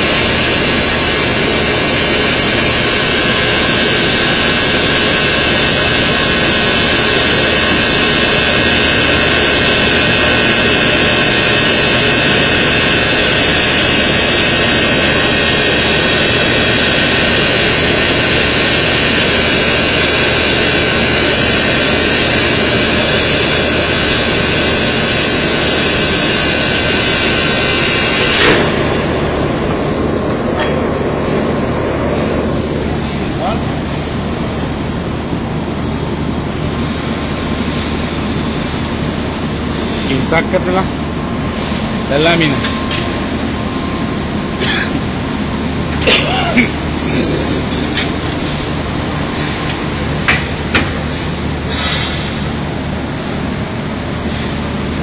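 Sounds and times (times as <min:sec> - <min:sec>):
welding machine humming and hissing: 0:00.0 - 0:55.0.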